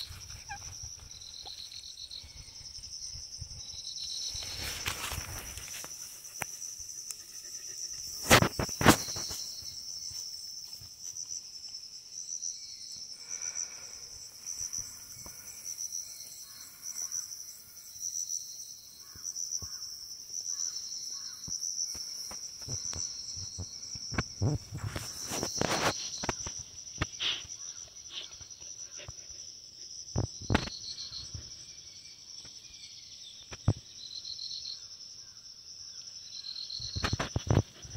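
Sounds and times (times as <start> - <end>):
insects chirping in grass: 0.0 - 37.9.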